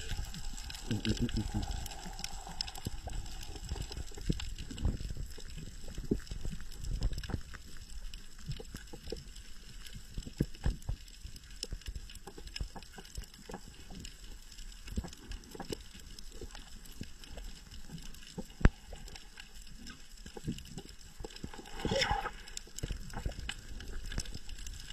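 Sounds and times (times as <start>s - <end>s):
underwater clicks and crackles: 0.0s - 24.9s.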